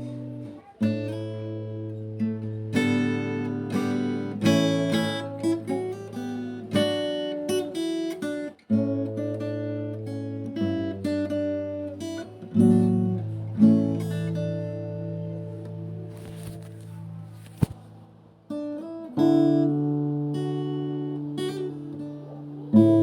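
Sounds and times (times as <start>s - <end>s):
acoustic guitar chords: 0.0s - 23.0s.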